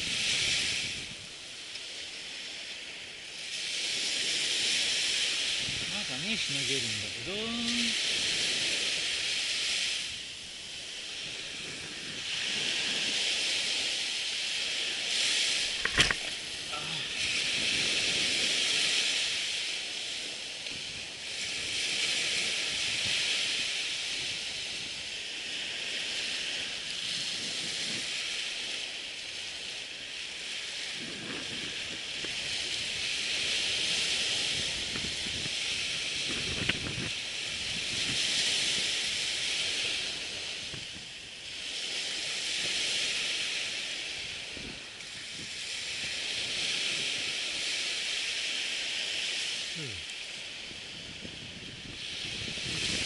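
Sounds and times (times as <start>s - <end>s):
surf washing onto beach: 0.0s - 53.0s
wind: 0.0s - 53.0s.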